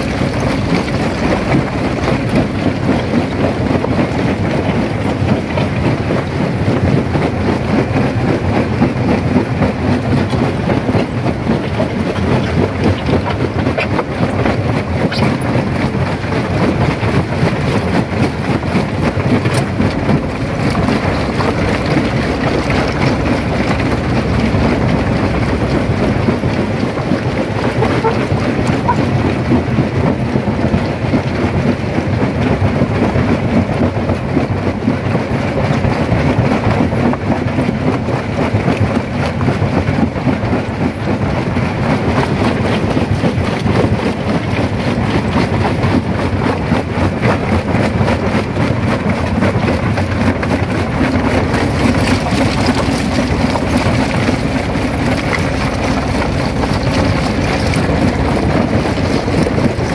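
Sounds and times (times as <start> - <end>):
jaw crusher rumbling: 0.0 - 33.0, 36.8 - 59.9.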